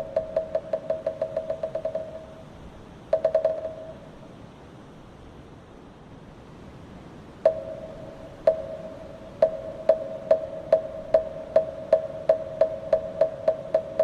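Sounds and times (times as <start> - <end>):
soft background hiss: 0.0 - 14.0.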